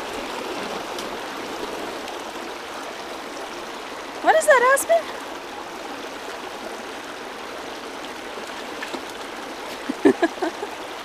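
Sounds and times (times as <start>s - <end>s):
creek running over stones: 0.0s - 11.0s.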